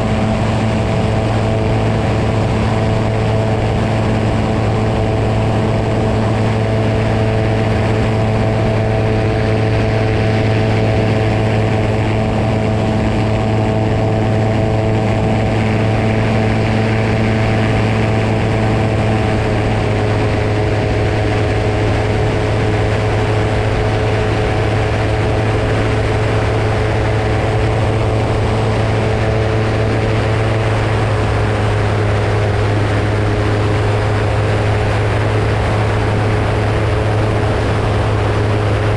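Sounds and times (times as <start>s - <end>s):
propeller aircraft engine drone: 0.0s - 38.9s.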